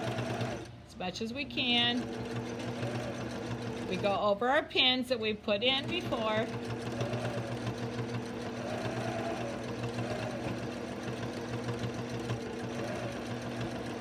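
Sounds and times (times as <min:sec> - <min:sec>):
electric sewing machine running: 0:00.0 - 0:00.7, 0:01.7 - 0:04.2, 0:05.7 - 0:14.0.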